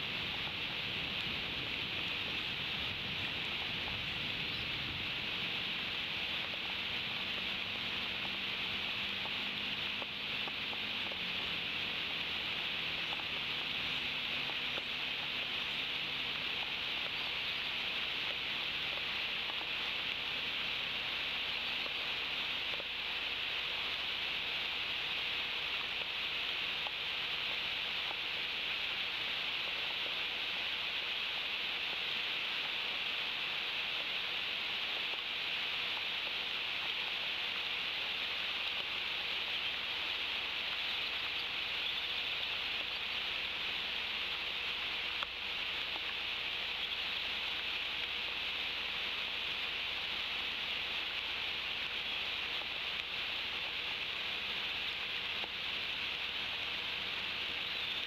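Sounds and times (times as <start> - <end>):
rain hissing on trees: 0.0 - 58.0.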